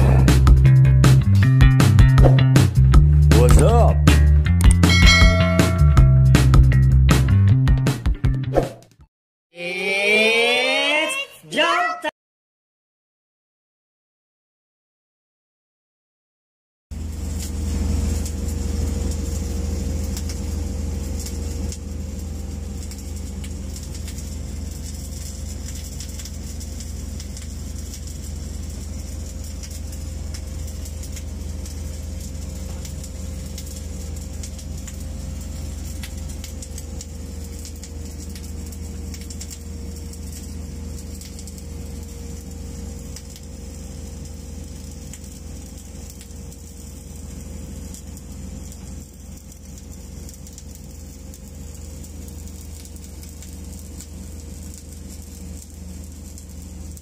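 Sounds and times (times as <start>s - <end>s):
low machine hum: 0.0s - 7.1s, 17.0s - 57.0s
welding arc crackle: 0.0s - 7.3s, 16.9s - 57.0s.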